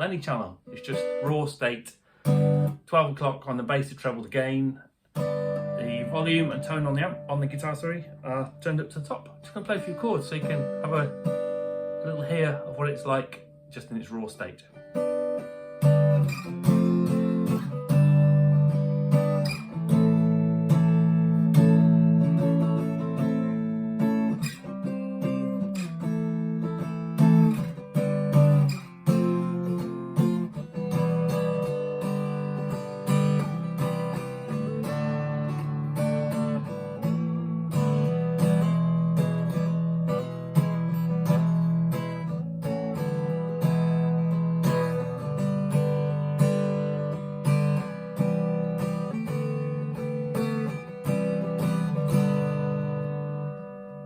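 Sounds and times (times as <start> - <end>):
clean electric guitar strumming: 0.0 - 2.9, 5.1 - 54.0.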